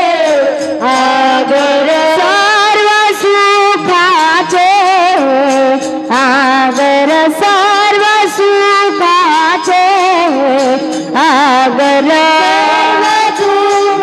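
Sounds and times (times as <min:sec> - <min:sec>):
person singing wavering notes: 0:00.0 - 0:14.0.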